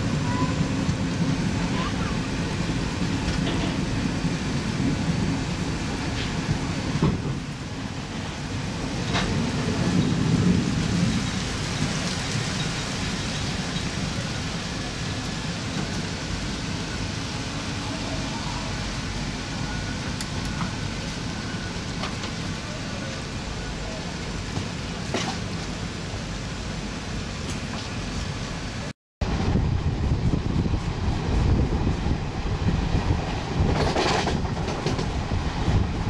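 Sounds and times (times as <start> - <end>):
train rumble heard on board: 0.0 - 36.0.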